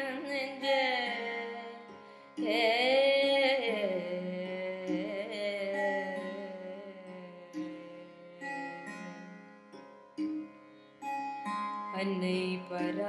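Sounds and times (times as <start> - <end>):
woman singing wordless phrase: 0.0 - 9.5, 11.9 - 13.0
string drone: 0.0 - 13.0.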